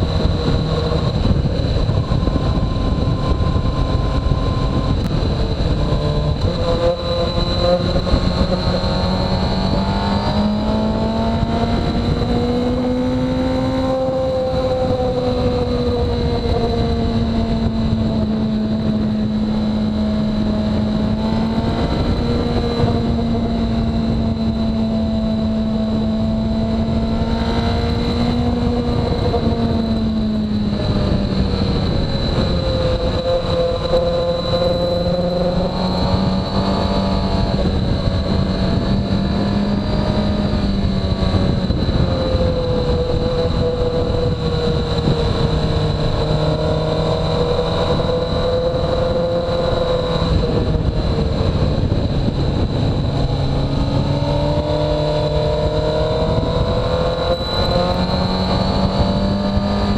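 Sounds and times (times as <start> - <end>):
motorcycle engine cruising: 0.0 - 59.9
wind rush: 0.0 - 59.9.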